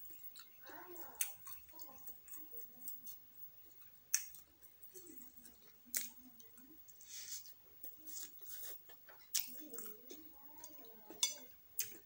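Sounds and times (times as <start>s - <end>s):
chewing sounds: 0.0s - 12.0s.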